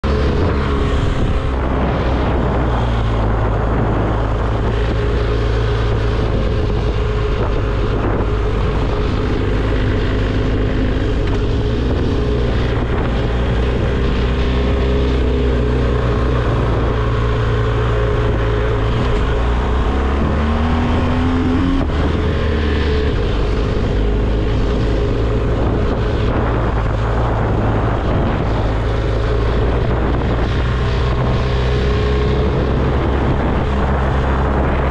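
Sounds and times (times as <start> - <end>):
motorcycle engine running: 0.0 - 34.9
wind noise on microphone: 0.0 - 34.9.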